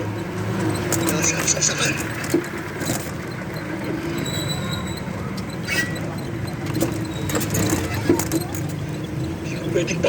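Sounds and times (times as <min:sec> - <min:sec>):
vehicle running noise inside cab: 0:00.0 - 0:10.0.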